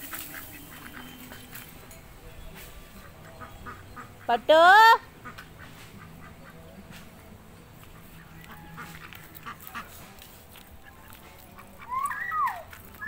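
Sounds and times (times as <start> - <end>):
ducks quacking: 0.0 - 1.8, 2.9 - 7.1, 7.8 - 12.4.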